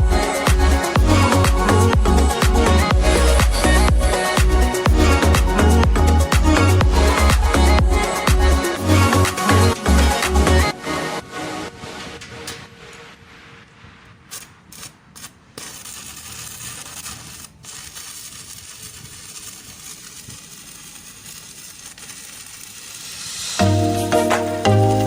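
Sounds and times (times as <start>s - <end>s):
welding arc crackling hiss: 0.0s - 25.0s.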